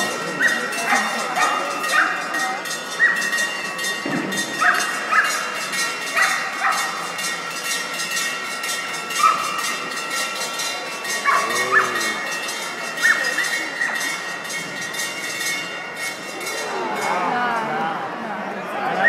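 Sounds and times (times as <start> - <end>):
indoor arena crowd noise: 0.0 - 19.0.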